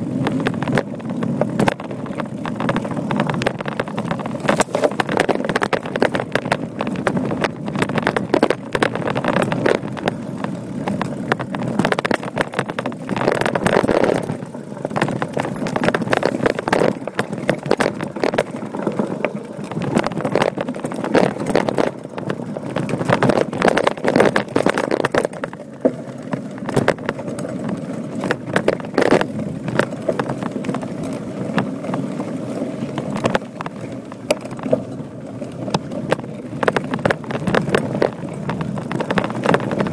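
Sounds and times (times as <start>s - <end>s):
bike rattling over bumps: 0.0s - 39.9s
tyres crunching on gravel: 0.0s - 39.9s.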